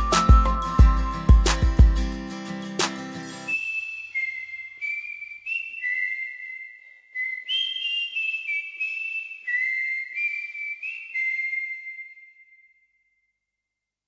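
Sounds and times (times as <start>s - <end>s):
whistled melody: 0.0s - 1.7s, 3.4s - 13.3s.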